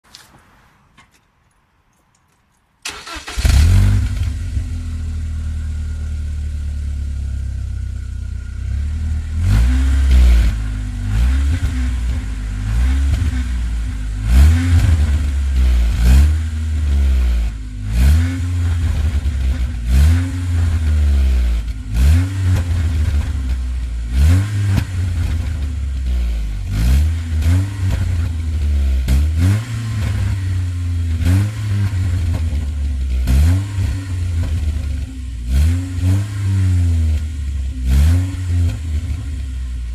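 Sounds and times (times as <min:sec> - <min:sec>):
car engine idling and revving: 0:02.9 - 0:39.9.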